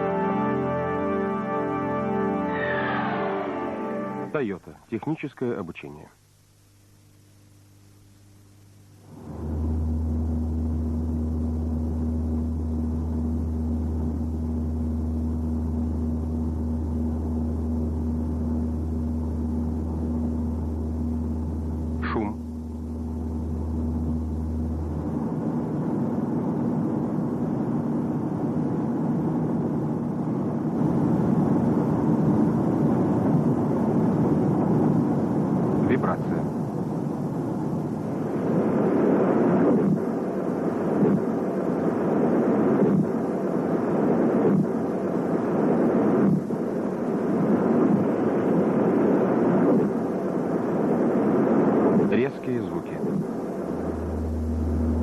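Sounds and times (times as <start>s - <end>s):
steady low drone: 0.0s - 4.5s, 9.0s - 55.0s
constant humming tone: 0.0s - 55.0s.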